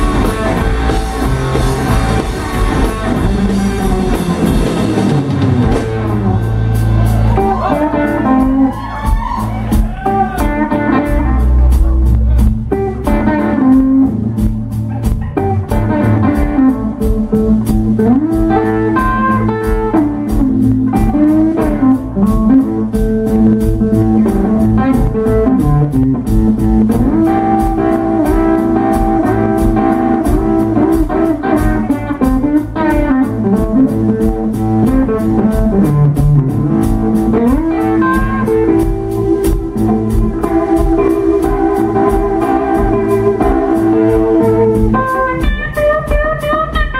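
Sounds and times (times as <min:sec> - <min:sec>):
blues band playing: 0:00.0 - 0:46.9
electric guitar lead: 0:00.0 - 0:46.9.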